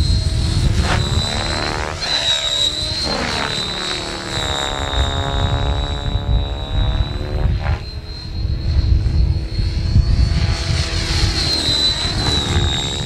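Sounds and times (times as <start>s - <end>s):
model helicopter high whine: 0.0s - 13.0s.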